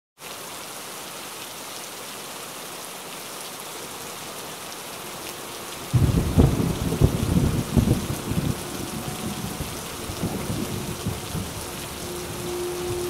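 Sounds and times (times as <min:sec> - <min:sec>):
steady rain falling: 0:00.2 - 0:13.0.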